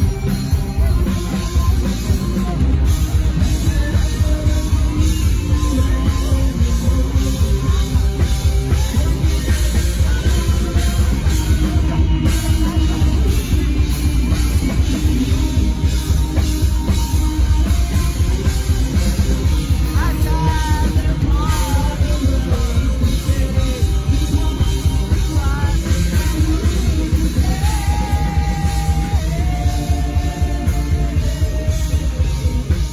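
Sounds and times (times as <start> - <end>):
bass guitar: 0.0 - 32.9
distorted electric guitars: 0.0 - 32.9
drum kit: 0.0 - 32.9
sung or lead guitar phrases: 0.0 - 32.9.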